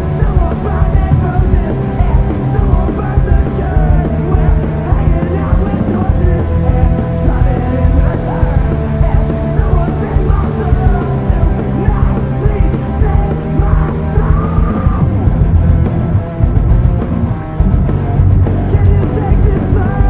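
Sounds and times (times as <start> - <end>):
low rumble of driving car: 0.0 - 20.0
punk rock song with yelled vocals: 0.0 - 20.0.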